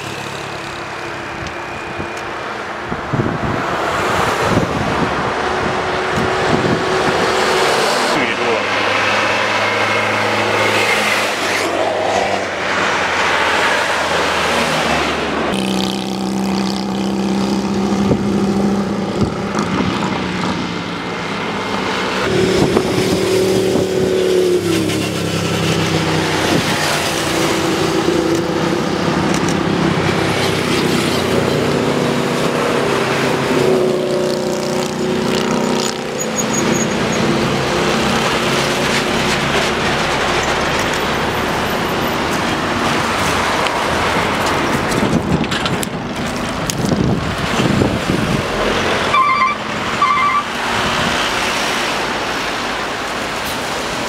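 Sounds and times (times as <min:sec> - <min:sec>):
heavy traffic passing: 0:00.0 - 0:54.0
road noise rush: 0:00.0 - 0:54.0.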